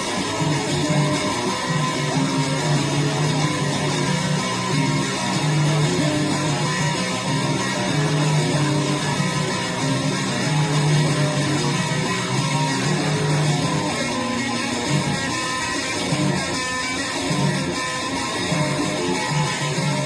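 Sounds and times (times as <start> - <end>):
distorted electric guitar notes: 0.0 - 20.0.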